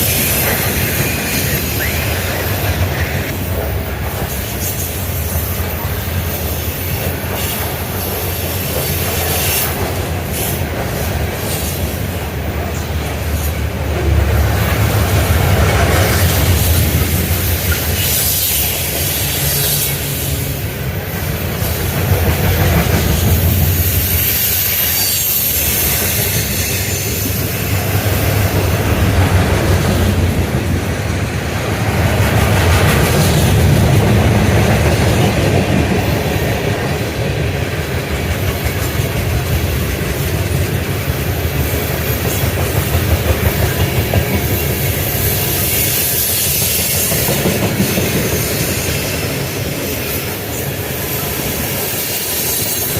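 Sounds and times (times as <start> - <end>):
train wheels clacking over rail joints: 0.0 - 52.9.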